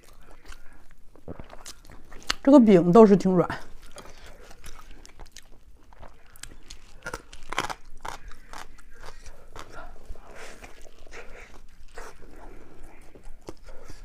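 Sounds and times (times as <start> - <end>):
person chewing food: 0.0 - 2.5, 3.6 - 14.0.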